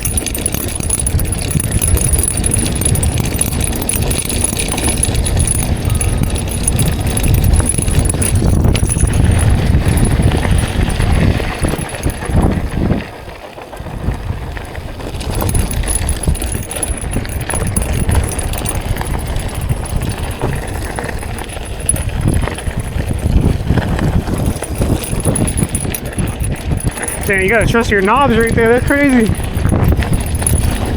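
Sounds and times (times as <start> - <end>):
bike rattling: 0.0 - 30.9
wind rumble on microphone: 0.0 - 30.9.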